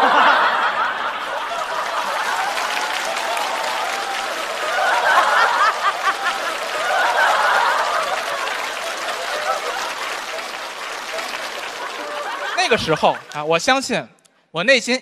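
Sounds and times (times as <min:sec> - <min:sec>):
audience laughing: 0:00.0 - 0:13.5
audience clapping: 0:00.0 - 0:13.8.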